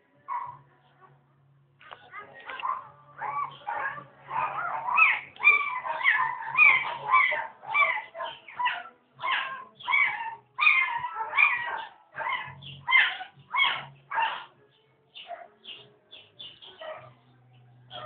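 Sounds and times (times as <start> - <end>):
puppies whimpering and squealing: 2.1 - 17.3.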